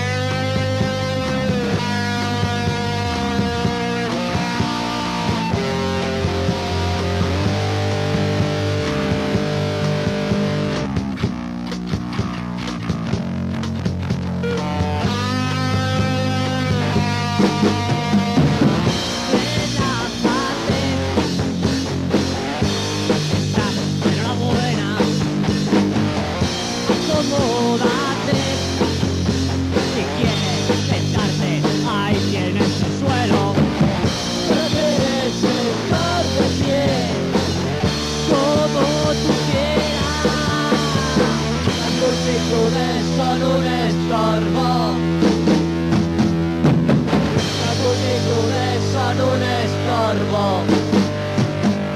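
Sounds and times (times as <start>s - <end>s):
bass guitar: 0.0s - 51.9s
drum kit: 0.0s - 51.9s
lead guitar with bending notes: 0.0s - 51.9s.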